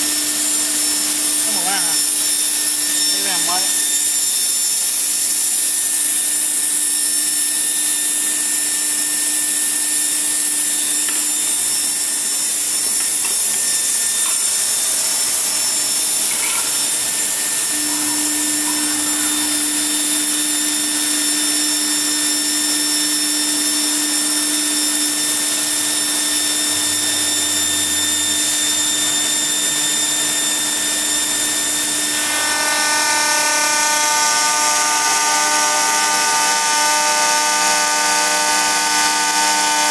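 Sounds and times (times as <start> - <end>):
machine spindle grinding glass: 0.0 - 39.9.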